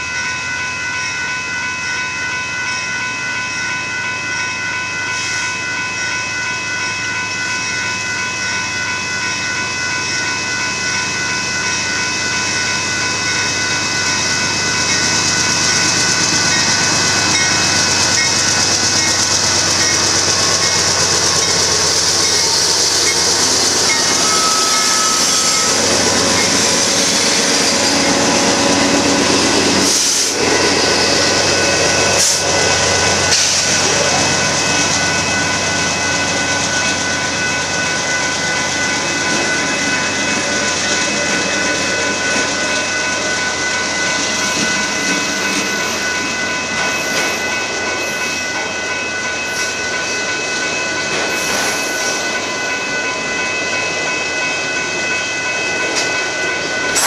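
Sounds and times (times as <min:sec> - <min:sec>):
crossing warning bell ringing: 0:00.0 - 0:57.0
train engine and wheel noise: 0:00.0 - 0:57.0.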